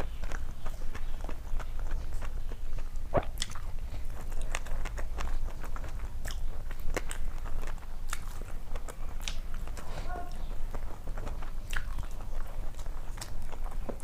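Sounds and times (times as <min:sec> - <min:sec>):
chewing crunchy food: 0:00.0 - 0:14.0.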